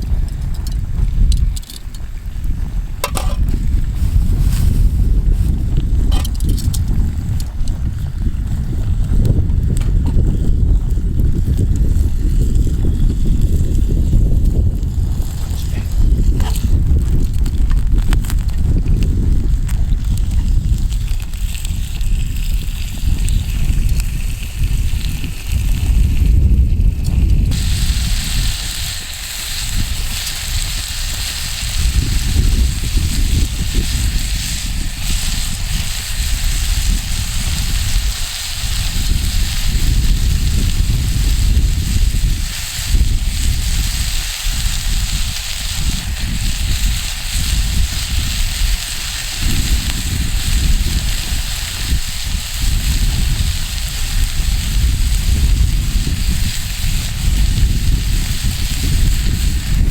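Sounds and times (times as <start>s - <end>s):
wind rumbling on microphone: 0.0s - 59.9s
wood fire crackling: 0.0s - 59.9s.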